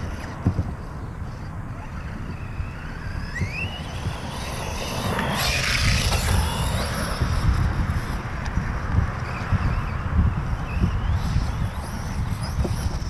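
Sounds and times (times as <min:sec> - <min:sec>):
electric motor whining: 0:00.0 - 0:13.0
rush of noise: 0:00.0 - 0:13.0.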